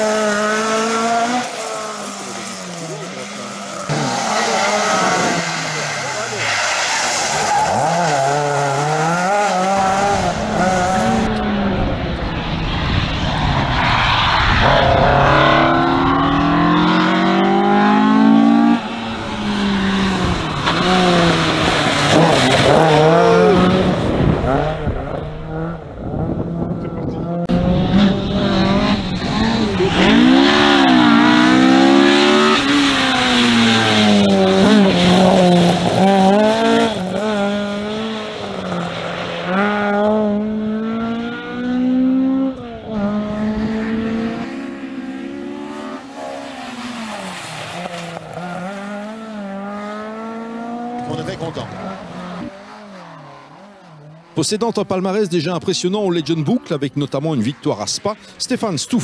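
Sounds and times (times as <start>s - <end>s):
rally car engine revving: 0.0s - 55.2s.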